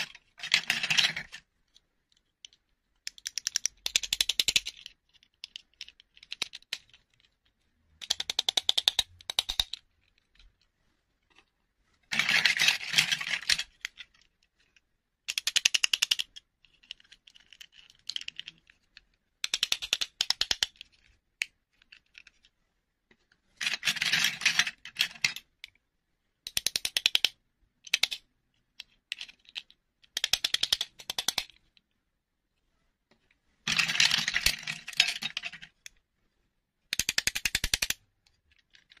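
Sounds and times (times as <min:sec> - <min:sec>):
plastic figures clicking and rattling: 0:00.0 - 0:32.1, 0:33.1 - 0:36.1, 0:36.8 - 0:39.0.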